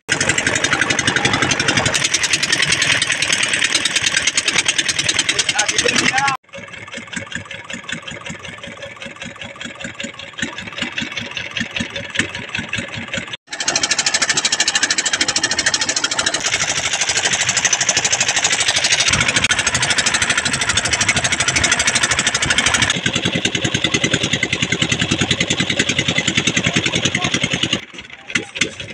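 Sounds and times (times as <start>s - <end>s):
boat engine chugging: 0.0s - 28.9s.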